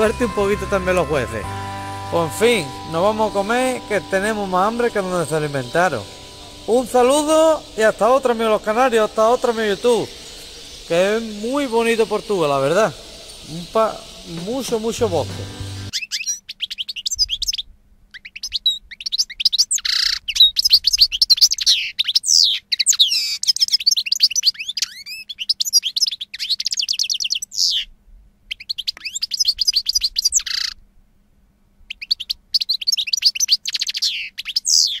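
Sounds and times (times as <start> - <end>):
songbird singing trills: 0.0 - 27.9, 28.5 - 30.8, 31.9 - 35.0.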